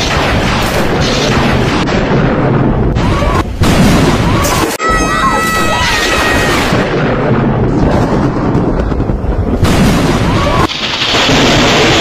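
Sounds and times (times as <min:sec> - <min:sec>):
thunder crackling and rumbling: 0:00.0 - 0:04.8, 0:05.4 - 0:12.0.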